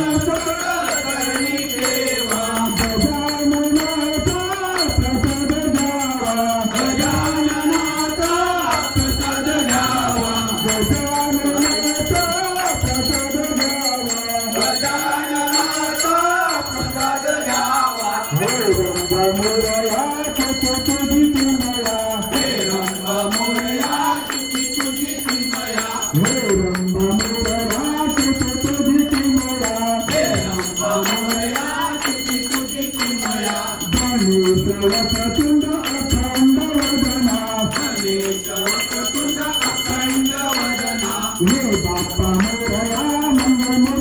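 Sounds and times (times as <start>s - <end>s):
congregation singing: 0.0s - 44.0s
temple bell ringing: 0.0s - 44.0s
hand-clapping: 0.1s - 13.8s, 18.4s - 44.0s.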